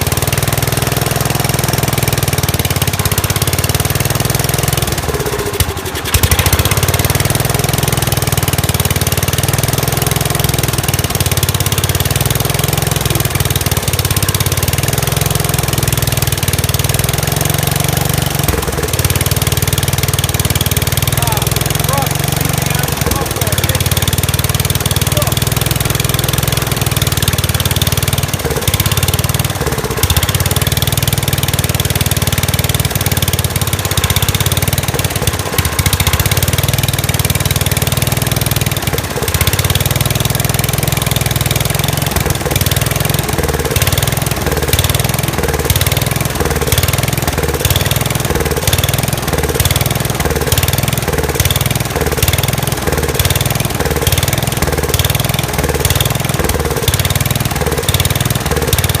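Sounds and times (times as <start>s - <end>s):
small engine idling and surging: 0.0s - 59.0s.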